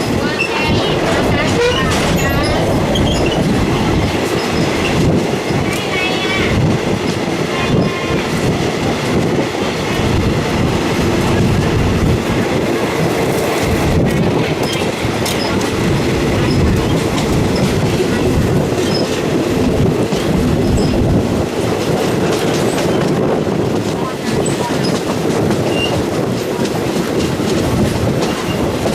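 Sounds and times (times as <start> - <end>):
train wheels rumbling and clacking: 0.0 - 28.9.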